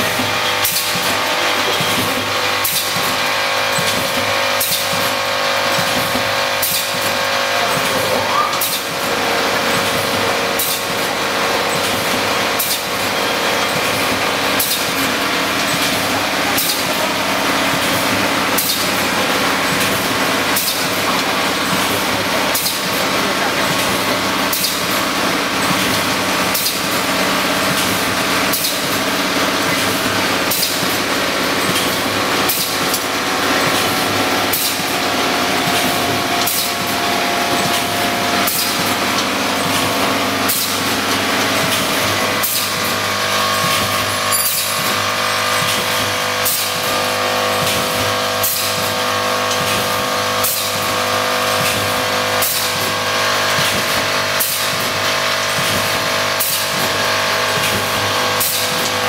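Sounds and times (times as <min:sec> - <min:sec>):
machine humming: 0:00.0 - 0:59.0
sharp mechanical clacks: 0:00.0 - 0:59.0.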